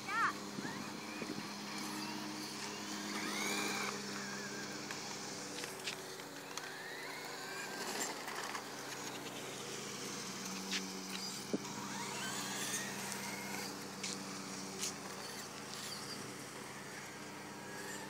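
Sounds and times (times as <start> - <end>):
electric toy truck motors whining: 0.0 - 18.0.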